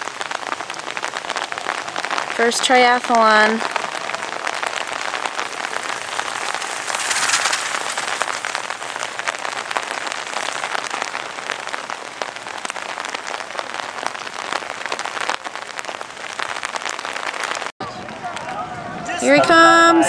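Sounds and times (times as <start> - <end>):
rain pattering: 0.0 - 19.7.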